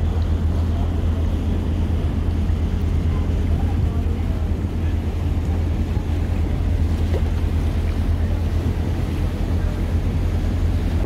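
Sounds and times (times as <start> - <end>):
motorboat engine hum: 0.0 - 11.0
water rushing: 0.0 - 11.0
wind buffeting microphone: 0.0 - 11.0.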